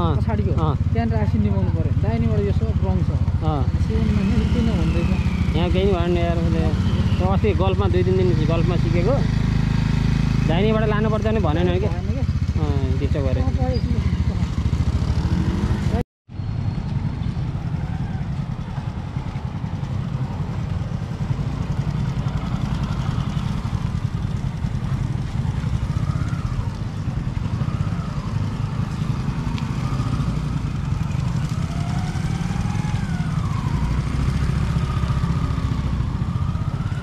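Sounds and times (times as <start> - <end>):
motorcycle engine at low speed: 0.0 - 37.0.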